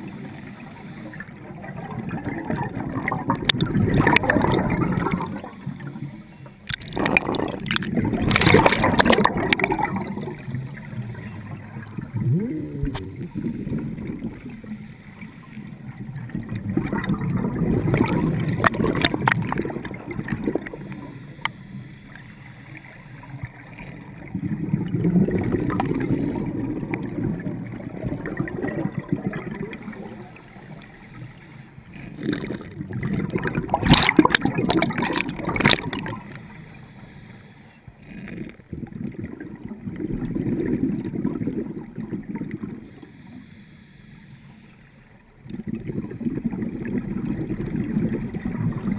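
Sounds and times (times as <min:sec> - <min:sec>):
regulator bubbles gurgling underwater: 0:00.0 - 0:48.9.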